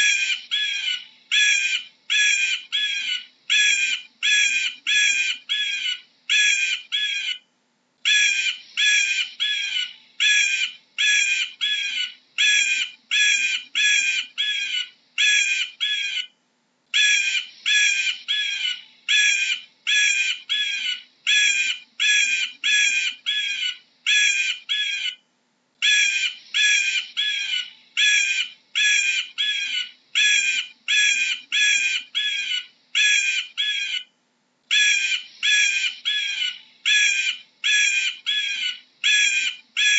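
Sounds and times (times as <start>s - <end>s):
eagle calling: 0.0s - 16.3s, 16.9s - 25.2s, 25.8s - 34.1s, 34.7s - 39.9s.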